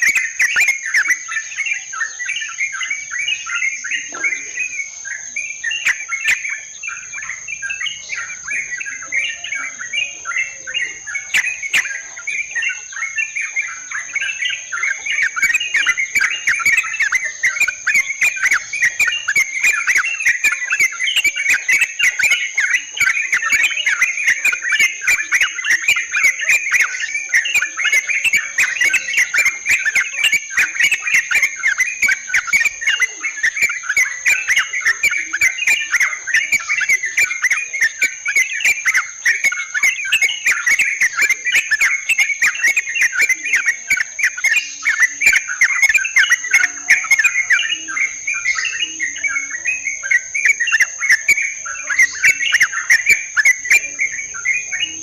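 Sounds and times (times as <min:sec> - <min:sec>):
bulbuls chattering: 0:00.0 - 0:55.0
high insect drone: 0:00.0 - 0:55.0.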